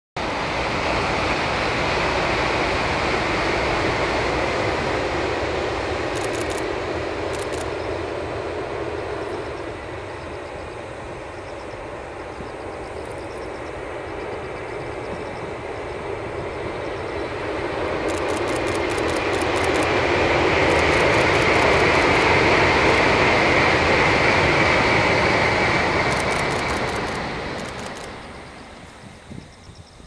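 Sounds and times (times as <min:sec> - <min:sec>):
high-speed train rumbling over bridge: 0:00.2 - 0:30.0.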